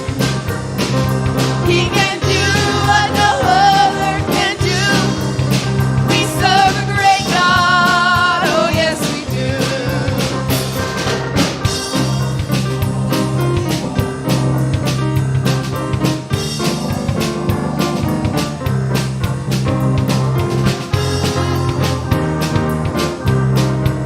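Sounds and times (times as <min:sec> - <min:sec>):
worship band playing: 0:00.0 - 0:24.0.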